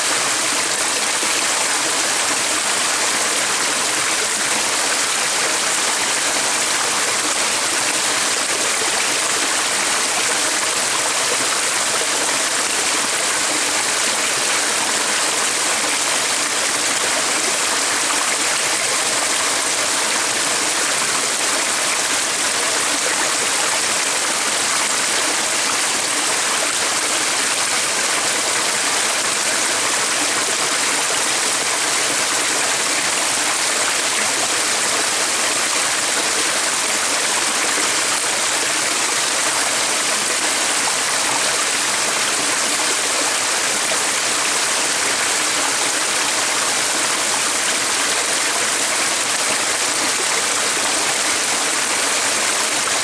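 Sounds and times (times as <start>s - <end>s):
stream running water: 0.0s - 53.0s.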